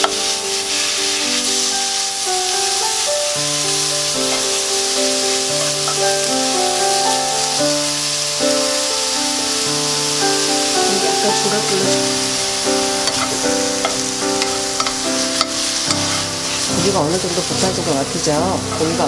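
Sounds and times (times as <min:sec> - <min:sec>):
meat and onions sizzling in oil: 0:00.0 - 0:19.0.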